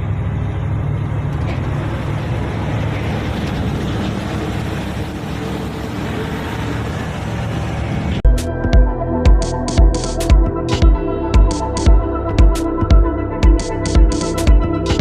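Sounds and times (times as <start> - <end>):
road and wind noise: 0.0 - 15.0
truck engine rumble: 0.0 - 15.0.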